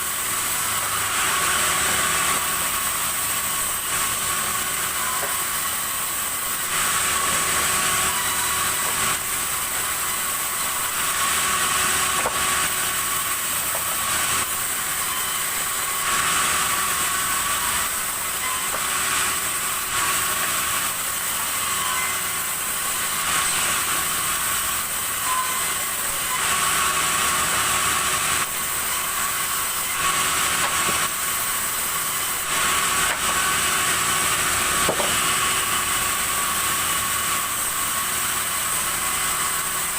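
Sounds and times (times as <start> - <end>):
saw cutting timber: 0.0 - 39.9.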